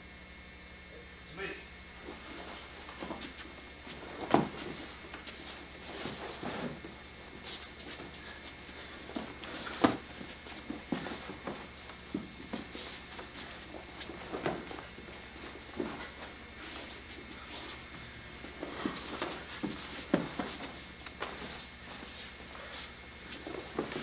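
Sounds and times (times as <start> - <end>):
steady low hum: 0.0 - 24.0
bodies thudding on carpeted floor: 2.0 - 24.0
light taps and footfalls: 2.0 - 24.0.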